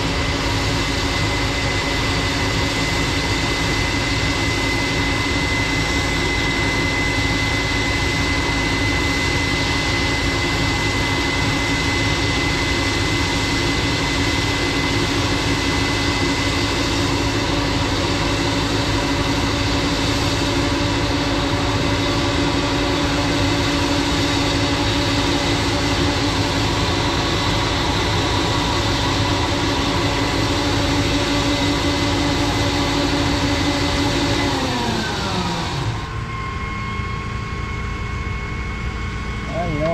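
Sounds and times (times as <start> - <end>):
combine harvester running: 0.0 - 38.0, 39.2 - 39.9
high machinery whine: 0.0 - 39.9.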